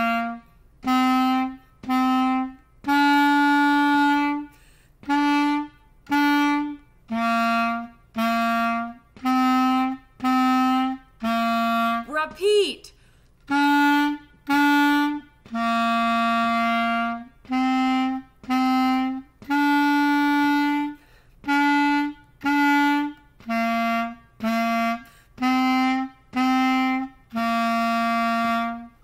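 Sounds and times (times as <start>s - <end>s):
clarinet playing simple melody: 0.0s - 12.1s, 13.4s - 29.0s.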